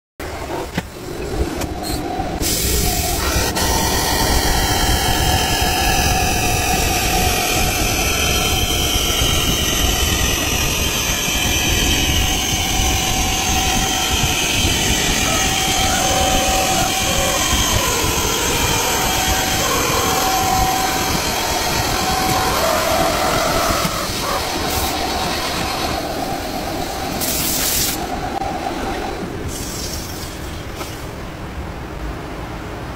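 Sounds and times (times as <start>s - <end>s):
wheel lathe machining: 1.9s - 30.1s.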